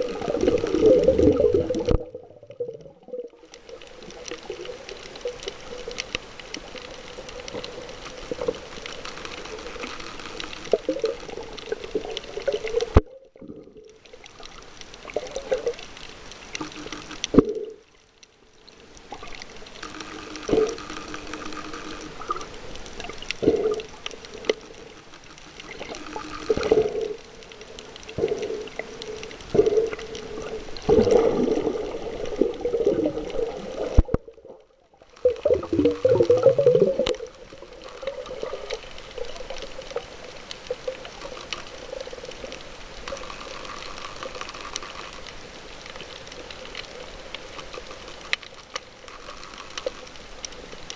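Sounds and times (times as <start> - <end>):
underwater sloshing and gurgling: 0.0 - 50.9.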